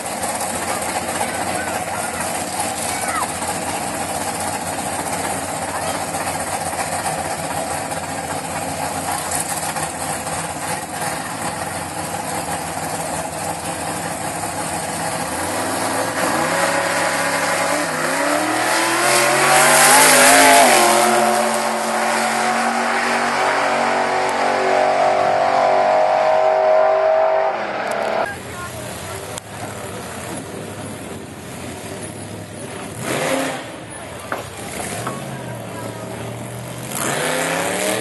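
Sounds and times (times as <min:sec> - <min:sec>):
drag car engine revving: 0:00.0 - 0:38.0.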